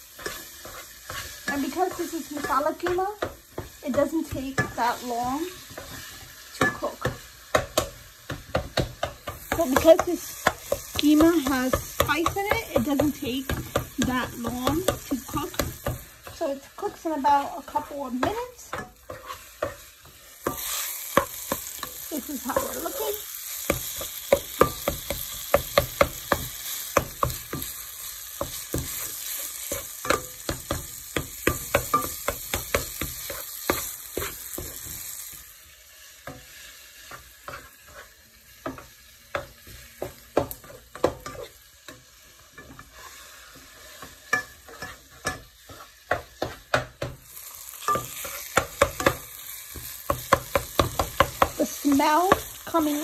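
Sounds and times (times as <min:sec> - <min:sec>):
meat sizzling in a pan: 0:00.0 - 0:53.0
spoon scraping a pan: 0:00.0 - 0:53.0.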